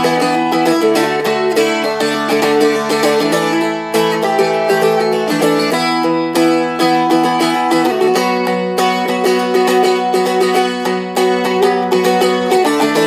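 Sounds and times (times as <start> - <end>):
dulcimer strummed chords: 0.0 - 13.0.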